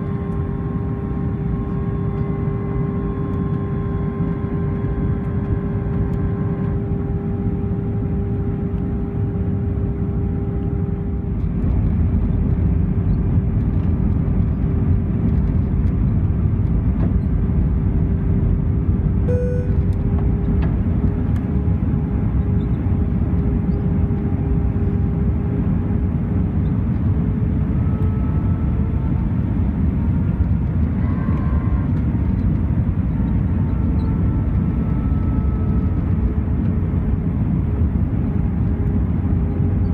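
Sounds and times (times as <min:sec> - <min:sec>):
low engine drone: 0:00.0 - 0:39.9.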